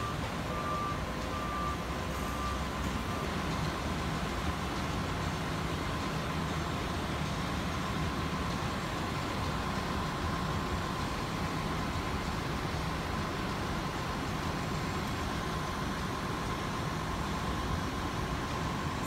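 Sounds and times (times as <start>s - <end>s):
monorail rumble and hiss: 0.0s - 19.0s.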